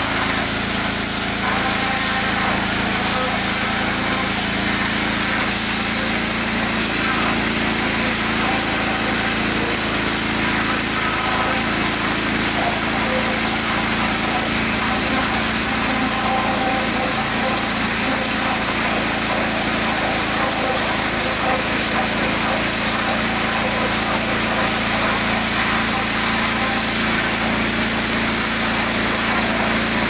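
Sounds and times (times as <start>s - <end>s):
high-pressure water jet hissing: 0.0s - 30.0s
small engine running: 0.0s - 30.0s.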